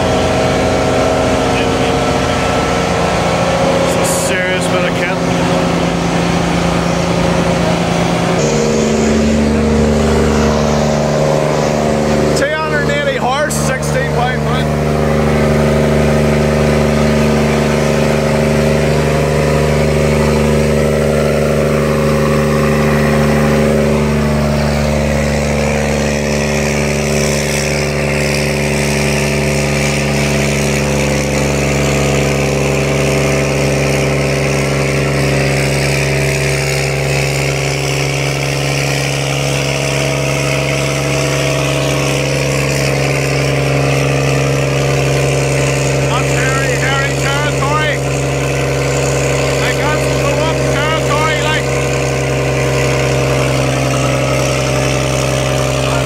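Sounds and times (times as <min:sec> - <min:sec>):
diesel engine droning under load: 0:00.0 - 0:56.0.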